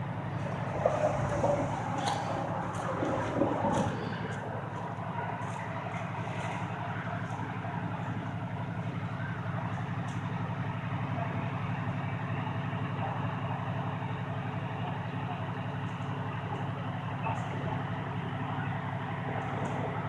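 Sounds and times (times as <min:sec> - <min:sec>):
large vehicle engine idling: 0:00.0 - 0:20.0.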